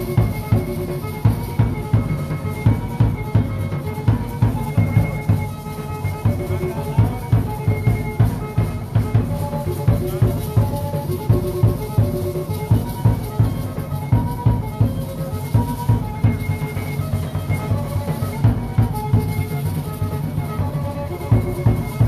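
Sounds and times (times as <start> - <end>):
drum beating quick rhythm: 0.0 - 22.0.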